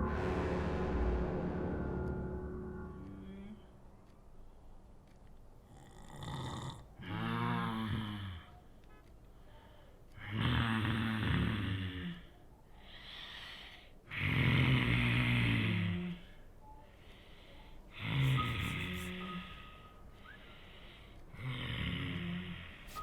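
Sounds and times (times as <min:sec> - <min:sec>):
quiet breaths: 0:03.4 - 0:23.0.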